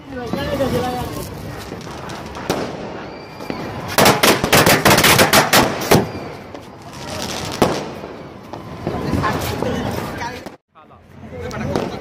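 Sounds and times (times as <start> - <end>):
firecrackers cracking: 0.0 - 10.6, 11.5 - 12.0.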